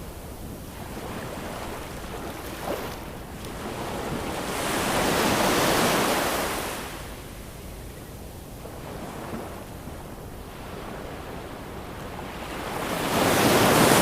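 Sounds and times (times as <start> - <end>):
ocean surf washing: 0.0 - 7.3, 8.6 - 14.0.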